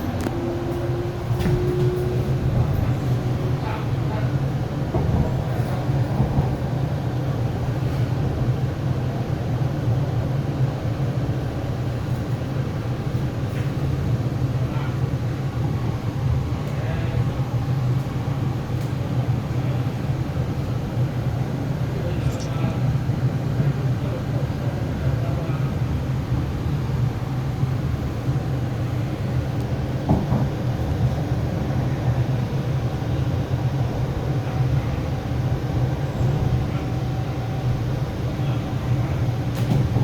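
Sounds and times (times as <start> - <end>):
train interior running rumble: 0.0 - 40.0.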